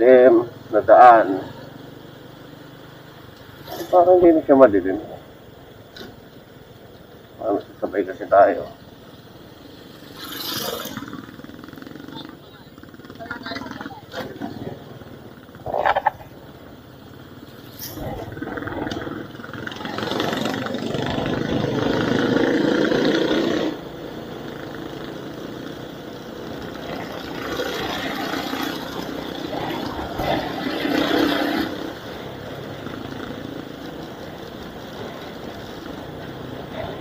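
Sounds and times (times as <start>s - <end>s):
road noise: 0.0s - 37.0s
vehicle engine: 0.0s - 37.0s.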